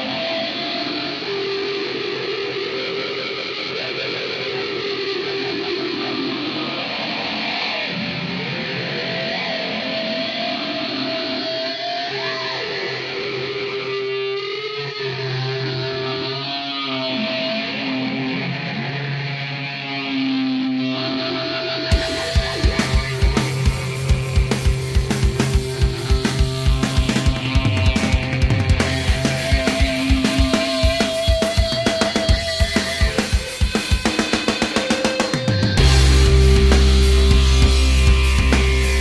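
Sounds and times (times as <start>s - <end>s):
rock music with electric guitar: 0.0s - 39.0s.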